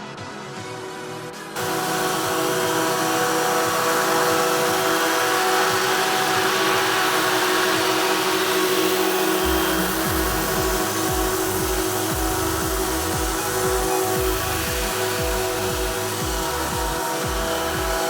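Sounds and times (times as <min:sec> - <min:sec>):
electric chainsaw running: 0:01.6 - 0:18.0.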